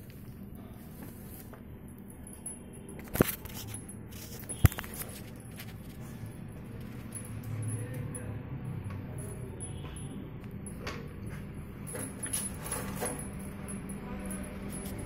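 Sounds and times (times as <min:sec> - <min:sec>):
chain leash clinking: 0:00.0 - 0:15.0
low steady hum: 0:00.0 - 0:15.0.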